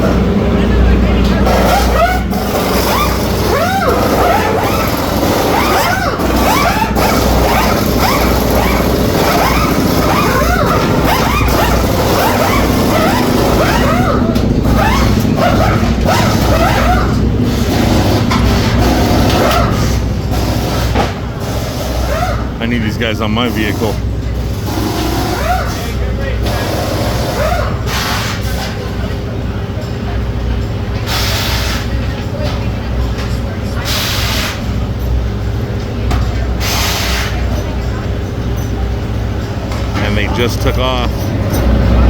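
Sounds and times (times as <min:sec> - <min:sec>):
voices calling and talking: 0:00.0 - 0:20.2, 0:22.4 - 0:42.0
low mechanical hum: 0:00.0 - 0:42.0.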